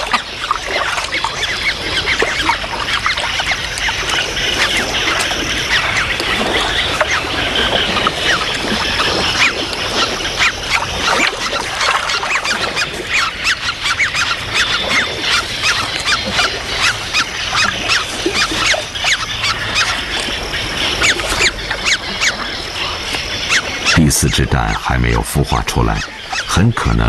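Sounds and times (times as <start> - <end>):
grebes calling: 0.0 - 27.0.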